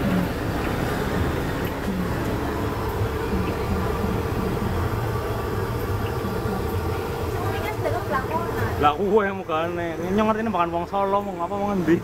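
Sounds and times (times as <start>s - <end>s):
oil sizzling: 0.0s - 11.0s
gas burner rumble: 0.0s - 12.0s.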